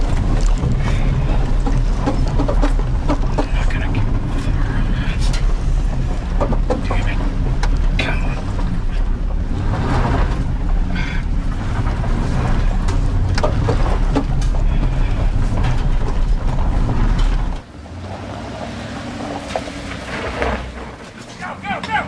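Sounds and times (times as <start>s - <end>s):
rattling and clanking: 0.0s - 22.0s
truck engine rumbling: 0.0s - 22.0s.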